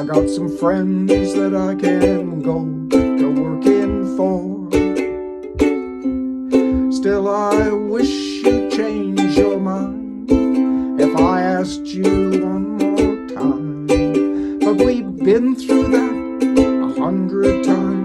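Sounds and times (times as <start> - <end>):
person singing: 0.0 - 18.0
plucked string instrument: 0.0 - 18.0.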